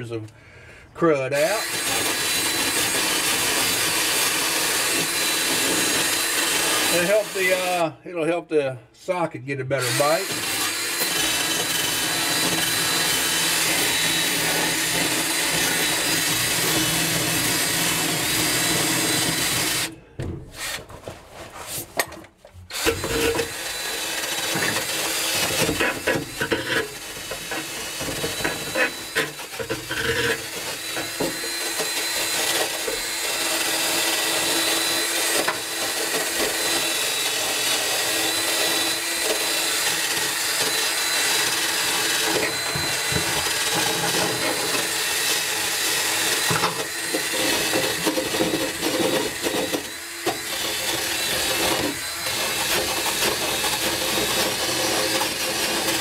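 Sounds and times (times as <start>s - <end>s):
drill wire brush scrubbing metal: 1.3s - 7.8s, 9.7s - 20.0s, 22.7s - 56.0s.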